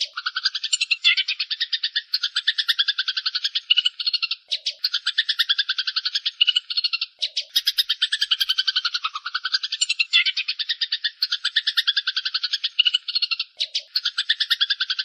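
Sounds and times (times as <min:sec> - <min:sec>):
sparrows chattering chirps: 0:00.0 - 0:15.0.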